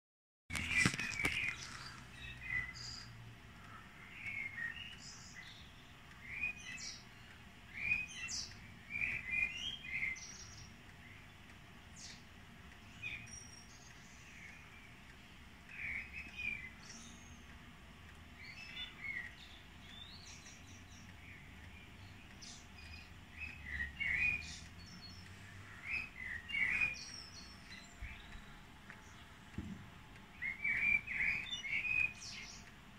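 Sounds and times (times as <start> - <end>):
blackbird singing: 0.5 - 32.8.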